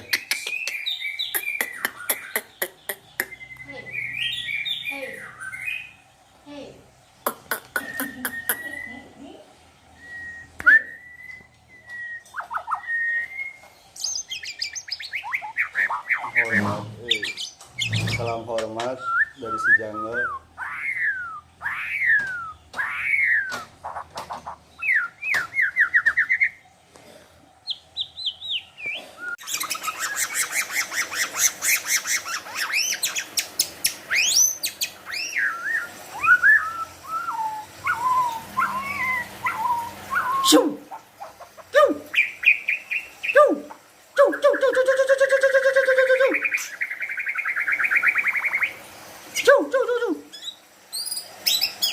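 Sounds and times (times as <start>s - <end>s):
bird singing varied song: 0.0s - 26.7s, 27.6s - 48.8s.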